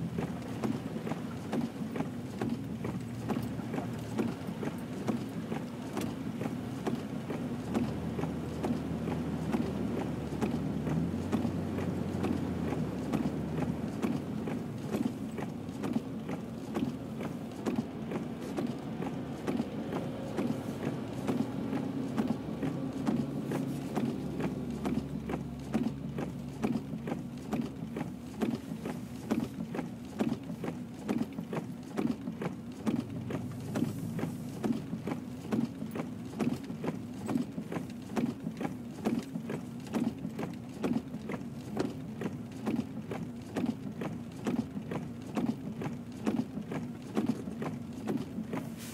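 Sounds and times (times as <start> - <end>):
vehicle engine humming: 0.0 - 48.9.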